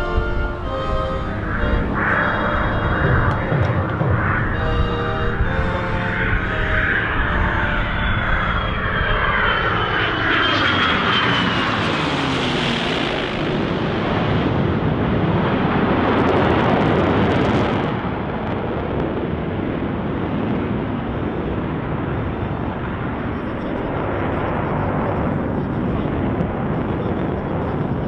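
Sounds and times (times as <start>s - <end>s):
aircraft flying past: 0.0s - 28.0s.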